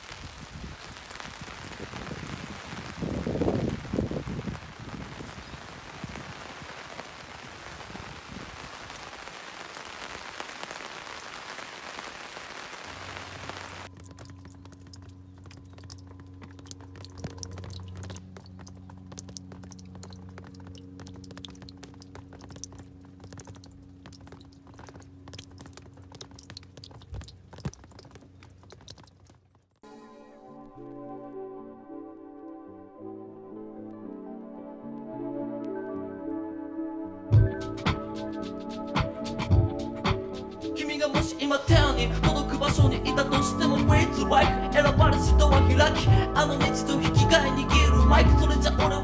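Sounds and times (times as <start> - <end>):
steady rain falling: 0.0 - 29.8, 37.4 - 49.0.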